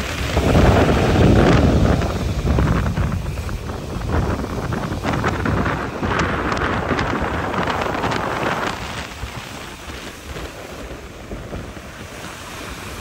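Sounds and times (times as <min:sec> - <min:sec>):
sea waves breaking on rocks: 0:00.0 - 0:13.0.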